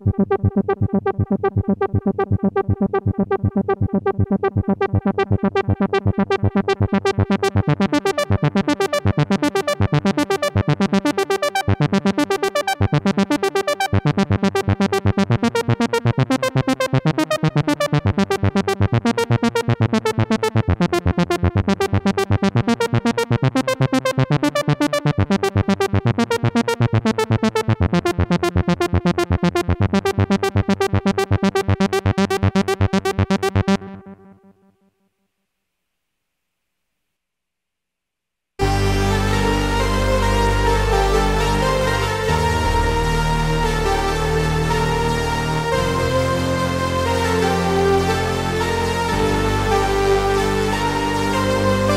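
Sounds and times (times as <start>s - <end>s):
synthesizer pulsing notes over chords: 0.0s - 34.5s, 38.6s - 51.9s.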